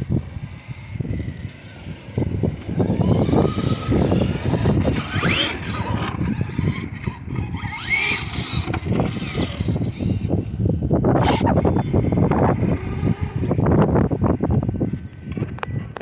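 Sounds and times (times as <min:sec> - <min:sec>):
electric motor whining: 0:00.0 - 0:16.0
loud rough rumble: 0:00.0 - 0:16.0.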